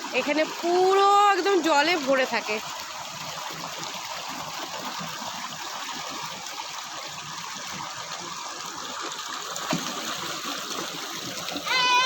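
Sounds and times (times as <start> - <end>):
water trickling over rocks: 0.0 - 12.0.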